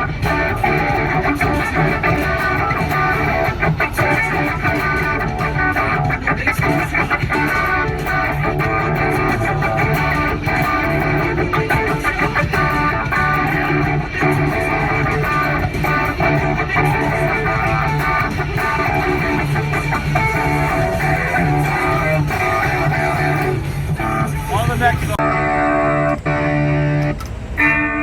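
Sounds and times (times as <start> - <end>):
electric guitar strumming: 0.0 - 28.0.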